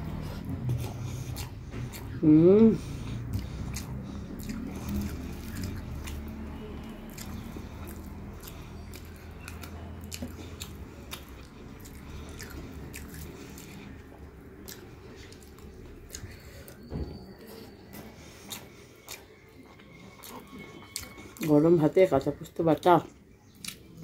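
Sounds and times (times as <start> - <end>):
steady low hum: 0.0 - 20.2
chewing: 0.0 - 24.0.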